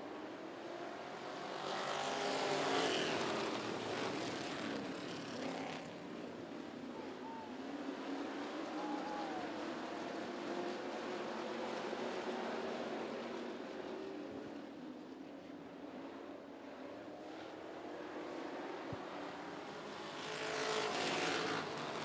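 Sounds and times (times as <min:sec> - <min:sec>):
race car engines running hard: 0:00.0 - 0:22.0.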